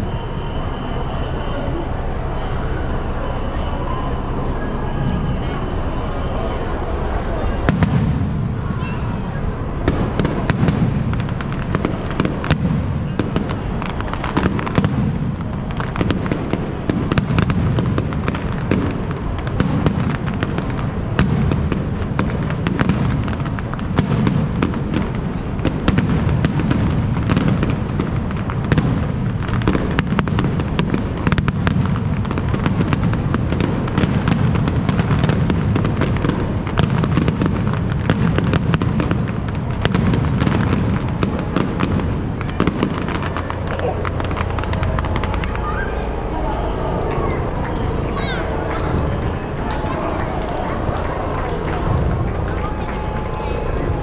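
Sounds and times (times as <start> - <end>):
heavy low rumble: 0.0 - 29.6, 39.0 - 54.0
fireworks bangs and crackles: 0.0 - 54.0.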